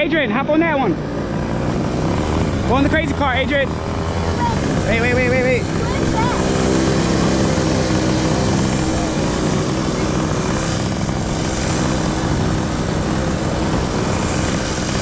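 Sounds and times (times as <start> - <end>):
small gasoline engine idling: 0.0 - 15.0.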